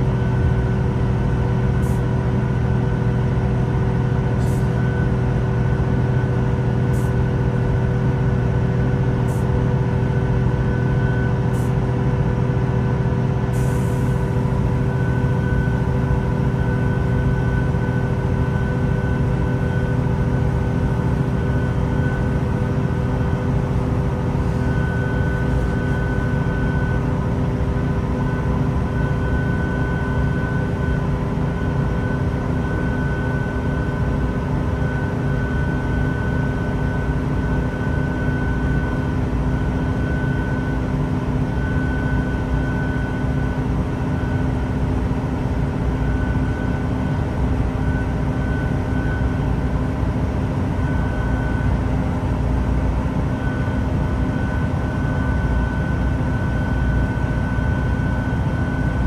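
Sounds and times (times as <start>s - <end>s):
diesel engine drone: 0.0s - 59.0s.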